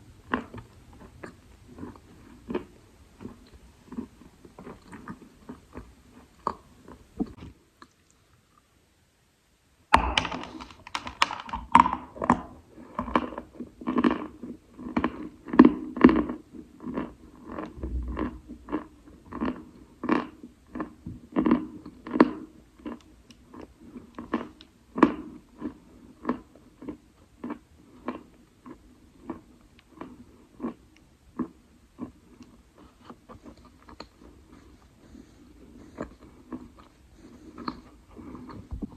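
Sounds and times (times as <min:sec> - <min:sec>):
chalk crunching being chewed: 0:00.2 - 0:07.1, 0:10.2 - 0:38.7.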